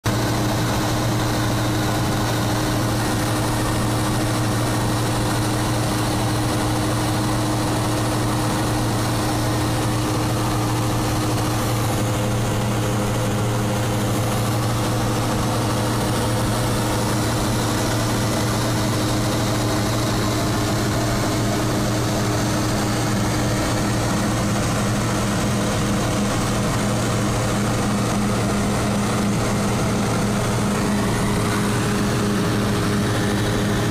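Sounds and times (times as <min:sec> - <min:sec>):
light aircraft engine droning: 0:00.1 - 0:33.9.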